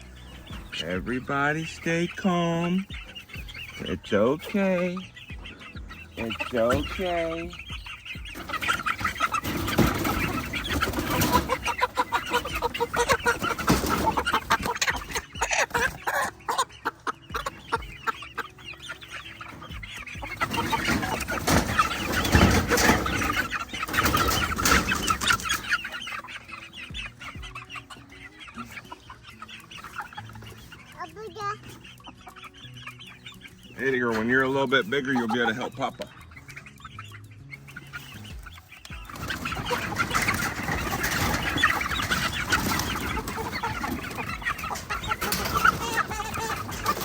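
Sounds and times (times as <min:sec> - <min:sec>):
chickens clucking and squawking: 0:00.0 - 0:47.0.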